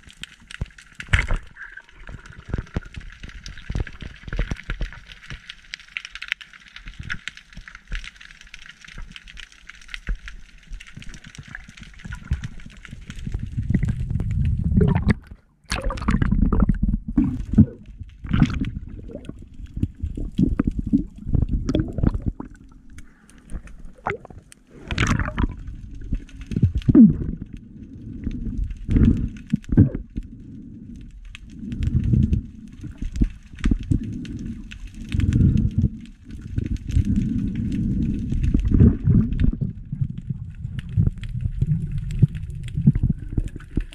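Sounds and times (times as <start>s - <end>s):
muffled water sloshing and gurgling: 6.8s - 43.9s.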